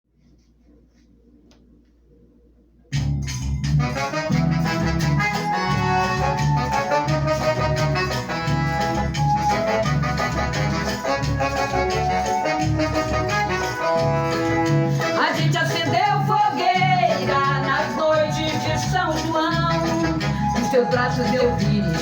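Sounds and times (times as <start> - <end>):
pulsing bass beat: 2.9 - 22.0
instrumental band music: 3.0 - 22.0.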